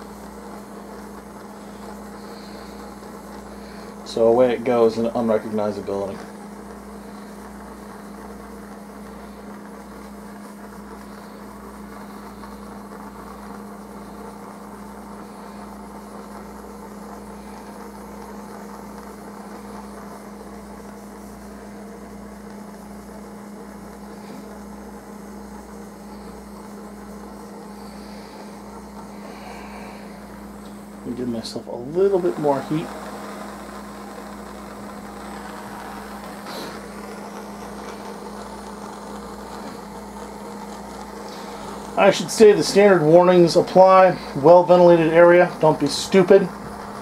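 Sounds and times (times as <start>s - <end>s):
torch burning hum and hiss: 0.0s - 47.0s.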